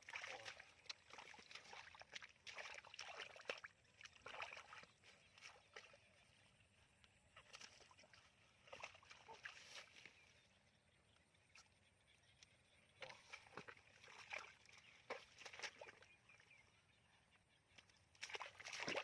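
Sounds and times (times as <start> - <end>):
mud and water sloshing: 0.0 - 19.0.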